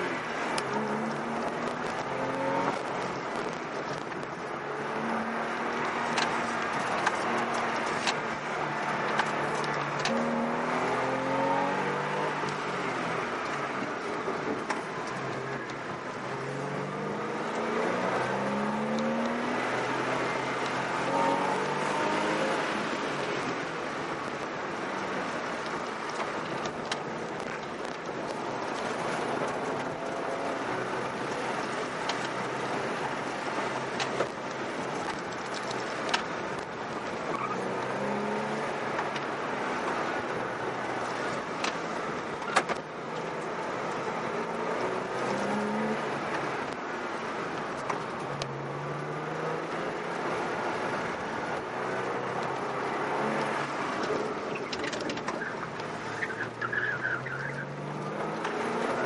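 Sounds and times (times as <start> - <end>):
car engine revving: 0.0 - 59.0
road and tyre rush: 0.0 - 59.0.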